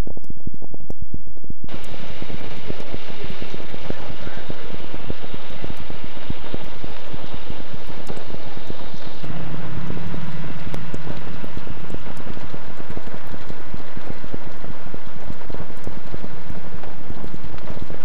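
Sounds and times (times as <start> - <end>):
loud crackling: 0.0 - 18.0
low steady hum: 1.6 - 18.0.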